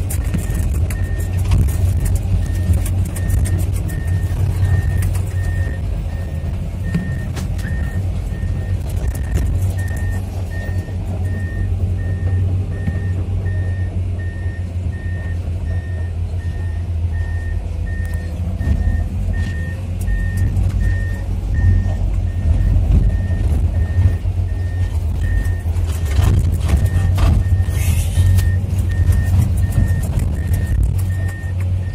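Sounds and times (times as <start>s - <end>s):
excavator diesel engine running: 0.0s - 31.9s
travel alarm beeping: 0.2s - 1.4s, 2.0s - 31.9s.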